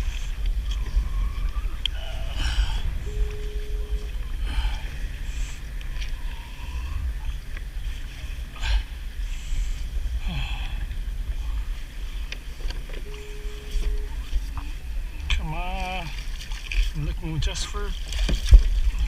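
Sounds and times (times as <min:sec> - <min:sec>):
water splashing: 0:00.0 - 0:19.0
wind on microphone: 0:00.0 - 0:19.0.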